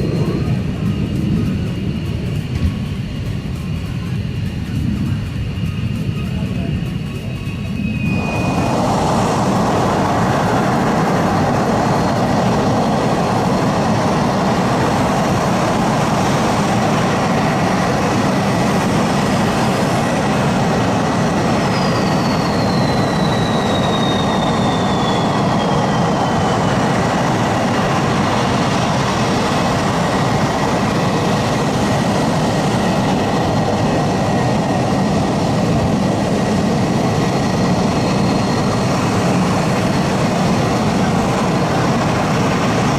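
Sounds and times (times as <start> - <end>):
jet engine roar: 0.0 - 42.9.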